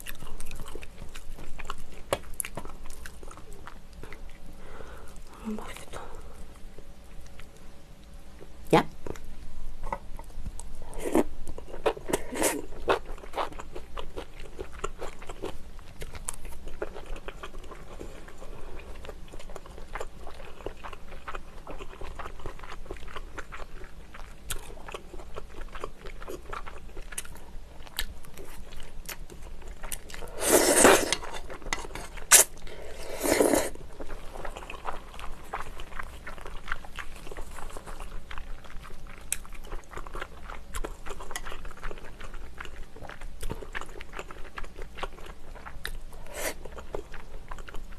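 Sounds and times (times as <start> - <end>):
close chewing and biting: 0.0 - 4.5, 10.4 - 32.8, 33.4 - 47.9.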